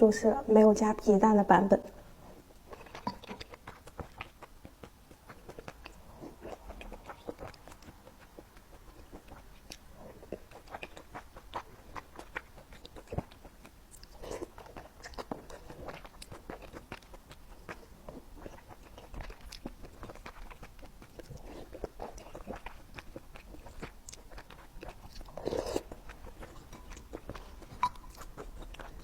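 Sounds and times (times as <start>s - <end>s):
chewing soft wet food: 2.0s - 29.0s.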